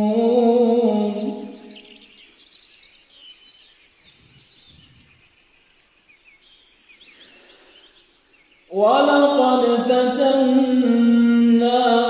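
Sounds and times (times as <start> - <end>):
faint birds chirping: 0.0 - 12.0
low background noise: 0.0 - 12.0.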